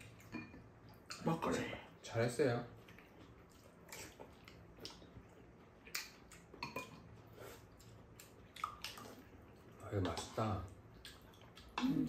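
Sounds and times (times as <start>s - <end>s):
quiet eating sounds: 0.0s - 12.0s.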